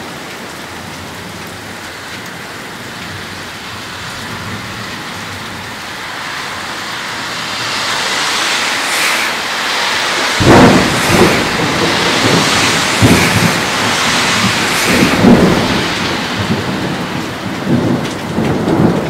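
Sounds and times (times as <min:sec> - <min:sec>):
rain falling: 0:00.0 - 0:19.0
thunder clap and rumble: 0:03.0 - 0:19.0.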